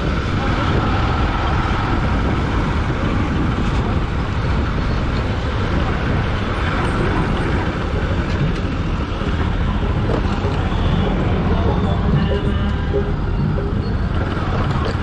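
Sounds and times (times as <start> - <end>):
vehicle driving on road: 0.0 - 15.0.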